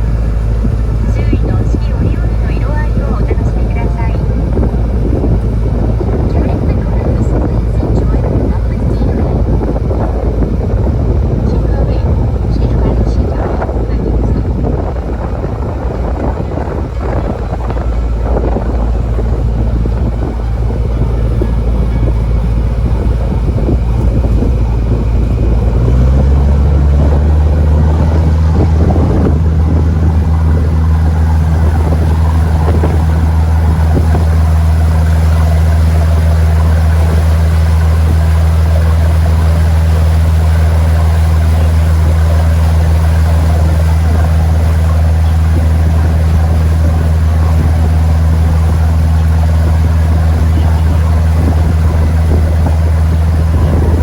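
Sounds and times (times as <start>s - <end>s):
boat engine droning: 0.0s - 54.0s
water noise: 0.0s - 54.0s
wind noise: 0.0s - 54.0s.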